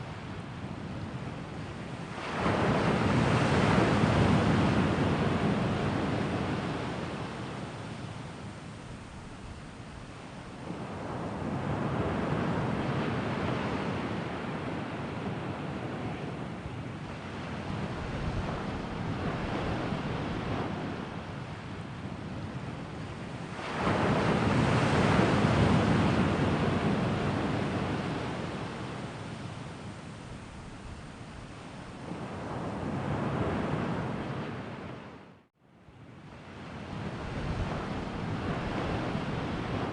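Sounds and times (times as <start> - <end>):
sea waves surging and breaking: 0.0 - 39.9.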